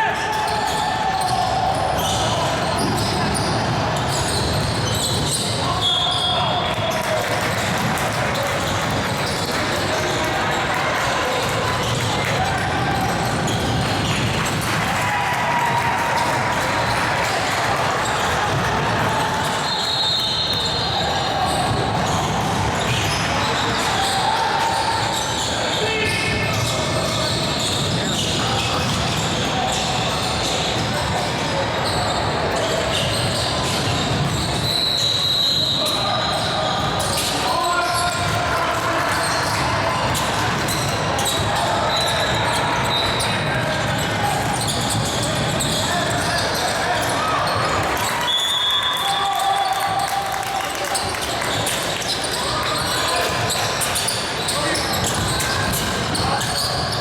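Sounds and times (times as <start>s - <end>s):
players and spectators voices: 0.0s - 57.0s.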